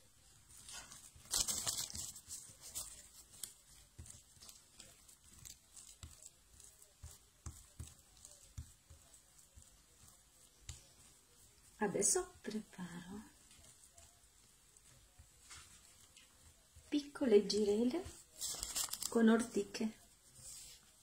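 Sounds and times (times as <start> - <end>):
rustling crackle: 0.1 - 19.5.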